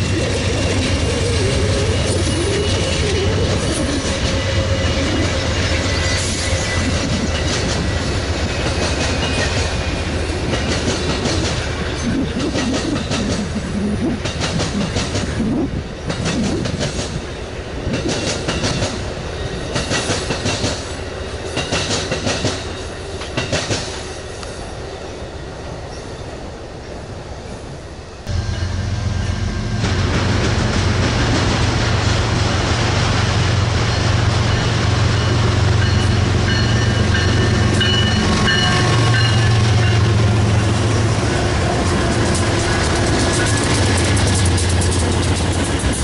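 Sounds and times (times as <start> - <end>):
train cars rumbling past: 0.0 - 46.0.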